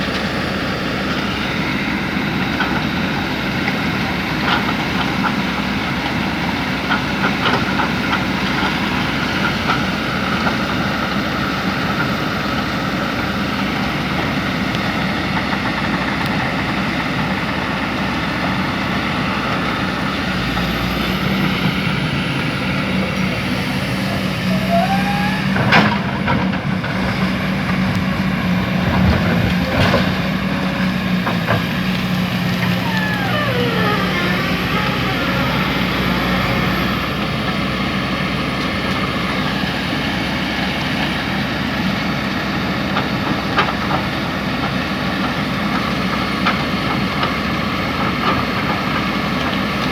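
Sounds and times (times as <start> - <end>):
diesel machinery engine hum: 0.0 - 49.9.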